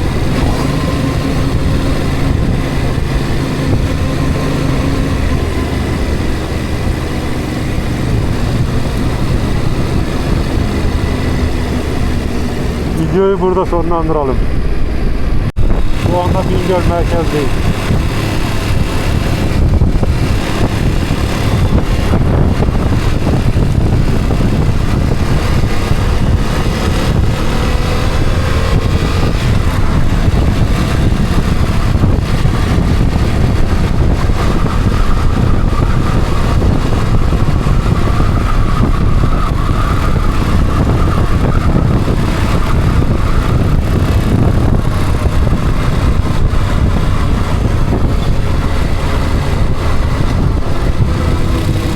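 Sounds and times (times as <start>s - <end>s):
vehicle engine and road noise: 0.0s - 51.9s.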